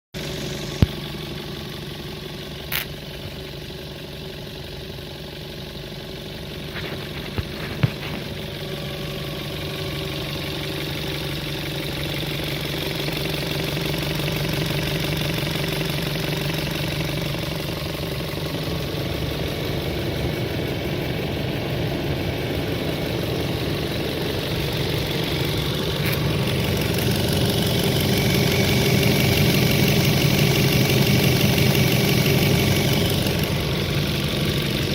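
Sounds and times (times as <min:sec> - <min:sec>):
engine idling with knock: 0:00.2 - 0:34.9.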